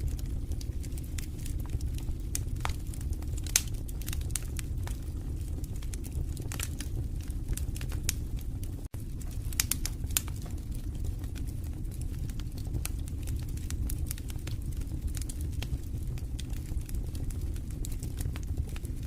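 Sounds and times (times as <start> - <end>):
logs crackling and popping: 0.0 - 19.0
low rush of flame: 0.0 - 19.0.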